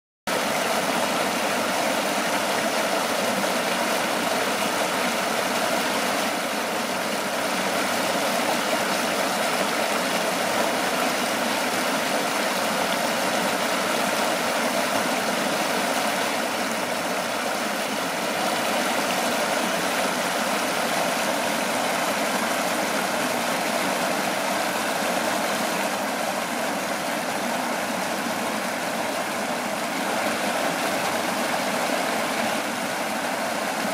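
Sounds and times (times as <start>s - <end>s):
river water rushing over stones: 0.3s - 33.9s.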